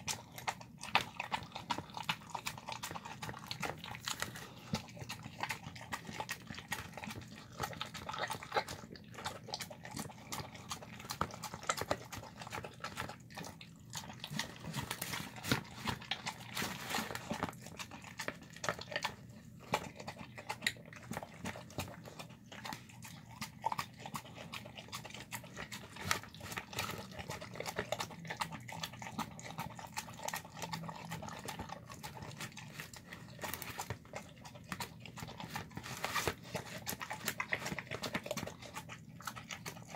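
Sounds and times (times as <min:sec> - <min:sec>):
dog chewing and smacking: 0:00.0 - 0:39.9.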